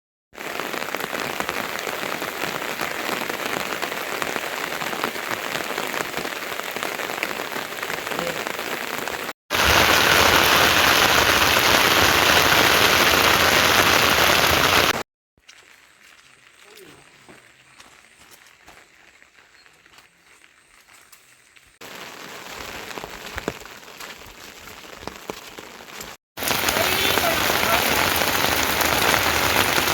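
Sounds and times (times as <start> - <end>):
rain falling: 0.4 - 29.9.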